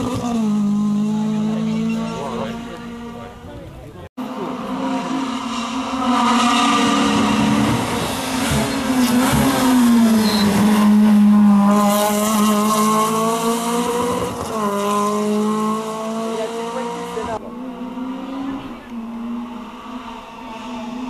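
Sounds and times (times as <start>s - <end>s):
rally car engine at high revs: 0.0s - 3.5s, 4.2s - 21.0s.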